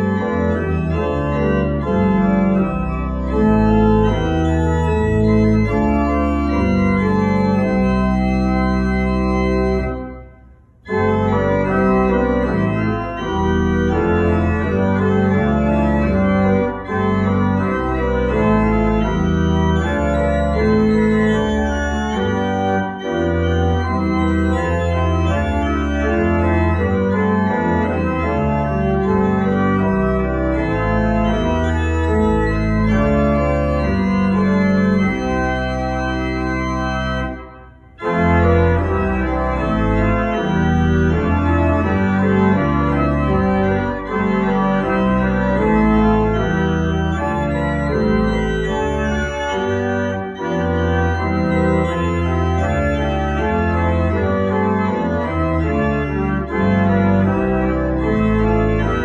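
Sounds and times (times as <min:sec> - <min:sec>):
church organ playing chords: 0:00.0 - 0:59.0.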